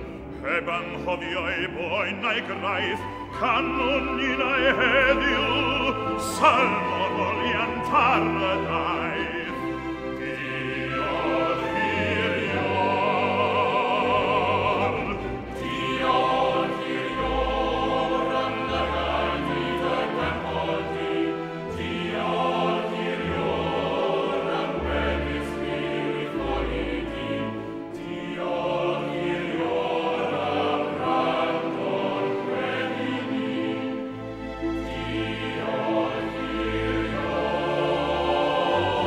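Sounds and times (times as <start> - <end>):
person singing a hymn: 0.0 - 39.0
sustained accompaniment: 0.0 - 39.0.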